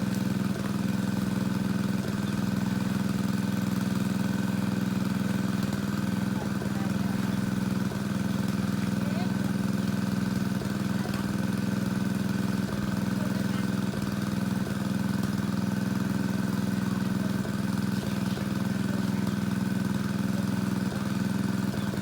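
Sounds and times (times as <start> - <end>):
water pump engine droning: 0.0 - 22.0.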